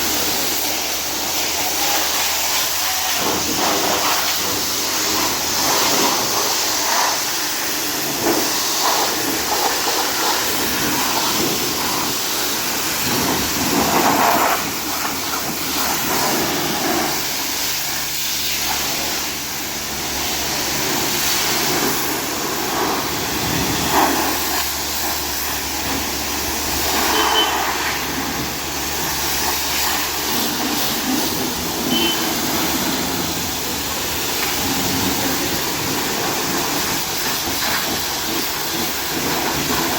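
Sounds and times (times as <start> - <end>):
high-pressure water spray hissing: 0.0 - 39.9.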